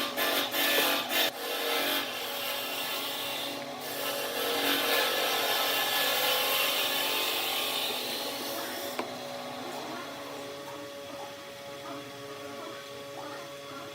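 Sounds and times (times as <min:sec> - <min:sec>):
wood lathe scraping rasp: 0:00.0 - 0:13.2.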